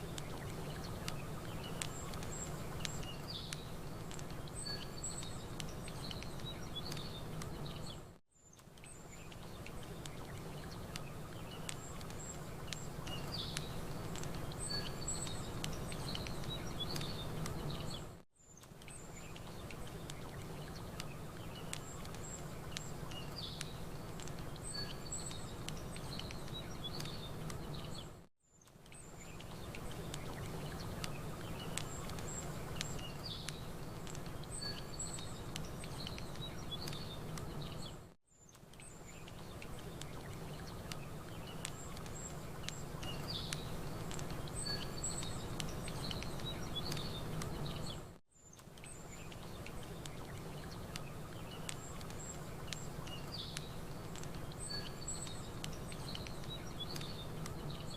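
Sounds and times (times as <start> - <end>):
campfire crackling: 0.0 - 57.9
small birds chirping: 0.0 - 57.9.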